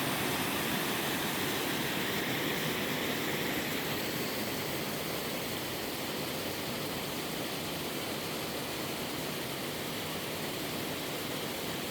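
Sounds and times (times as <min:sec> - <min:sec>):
waterfall rushing: 0:00.0 - 0:11.9.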